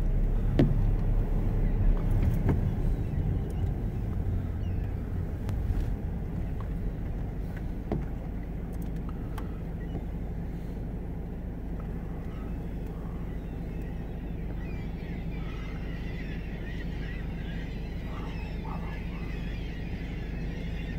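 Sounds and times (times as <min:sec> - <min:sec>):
car rumble from inside: 0:00.0 - 0:20.9
distant gulls calling: 0:00.0 - 0:20.9.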